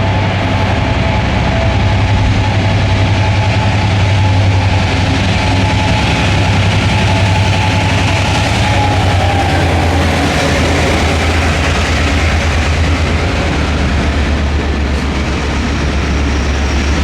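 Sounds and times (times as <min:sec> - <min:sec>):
locomotive engine hum: 0:00.0 - 0:17.0
wagons rumbling on rails: 0:00.0 - 0:17.0.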